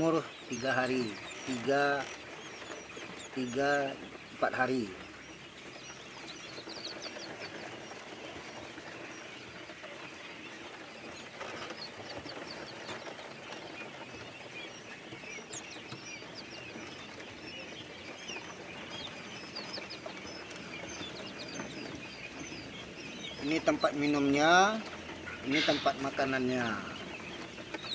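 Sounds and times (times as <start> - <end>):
quail chicks peeping: 0.0 - 27.9.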